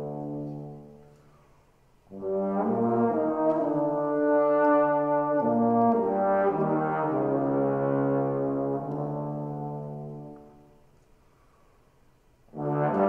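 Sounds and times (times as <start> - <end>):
trombones playing a duet: 0.0 - 1.4, 2.1 - 10.9, 12.5 - 13.0.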